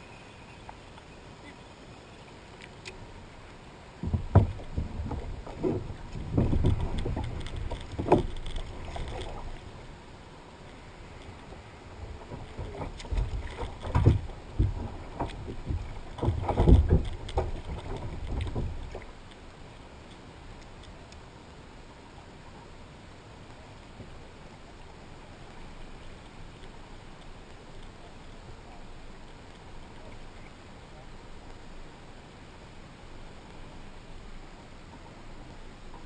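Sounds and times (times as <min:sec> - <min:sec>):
water sloshing against boat: 0:00.0 - 0:36.0.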